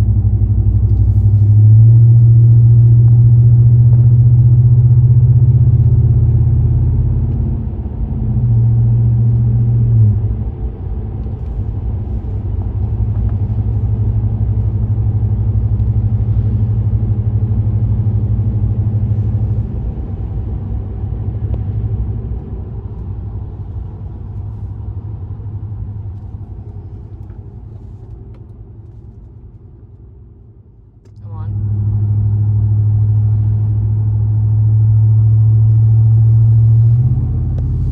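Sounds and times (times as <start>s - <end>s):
deep exhaust drone: 0.0s - 37.9s.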